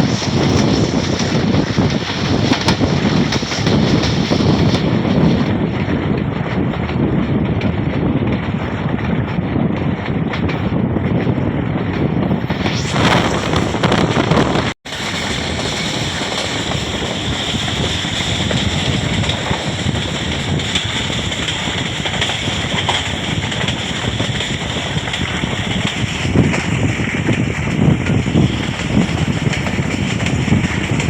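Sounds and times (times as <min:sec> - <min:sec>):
train running: 0:00.0 - 0:31.0
wind buffeting microphone: 0:00.0 - 0:31.0.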